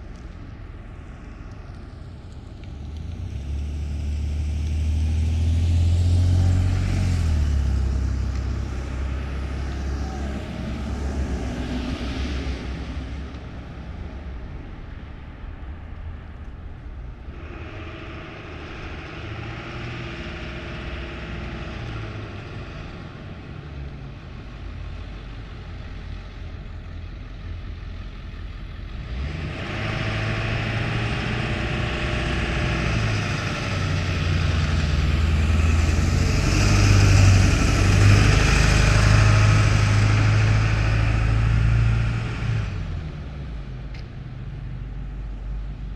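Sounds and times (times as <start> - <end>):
vehicle engine rumble: 0.0 - 45.9.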